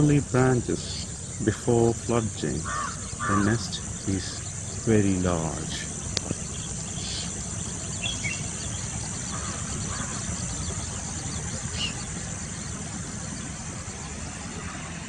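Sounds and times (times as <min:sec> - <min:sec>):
faint bird chirps: 0:00.0 - 0:15.0
insects droning: 0:00.0 - 0:15.0.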